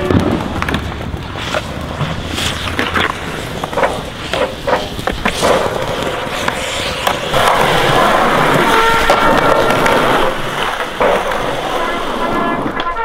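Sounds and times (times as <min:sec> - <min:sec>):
skateboard wheels rolling on asphalt: 0:00.0 - 0:13.0.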